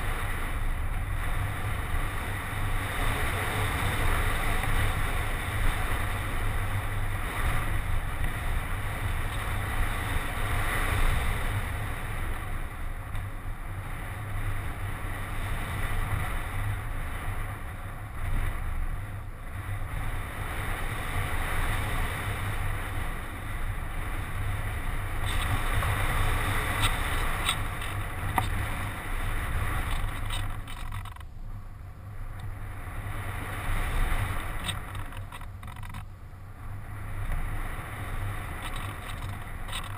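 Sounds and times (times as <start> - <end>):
air buffeting microphone: 0.0 - 39.9
wind noise: 0.0 - 39.9.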